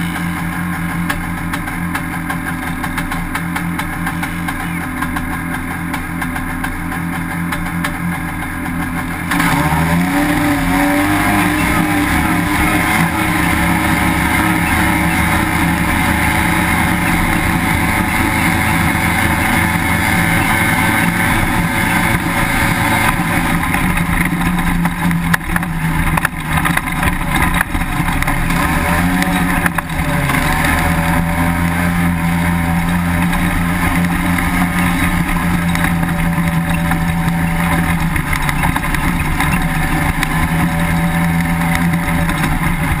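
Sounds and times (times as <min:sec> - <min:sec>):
dune buggy engine revving: 0:00.0 - 0:43.0.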